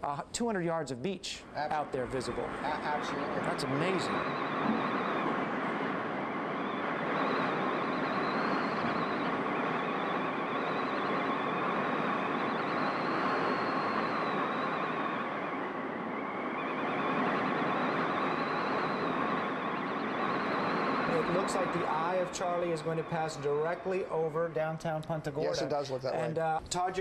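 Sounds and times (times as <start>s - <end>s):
faint high wind whistle: 1.4s - 26.4s
strong wind and rain rushing: 1.6s - 24.0s.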